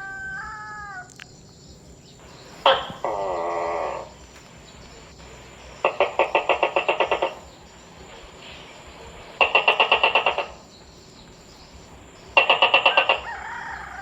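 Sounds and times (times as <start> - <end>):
gecko rattling call: 0.0 - 14.0.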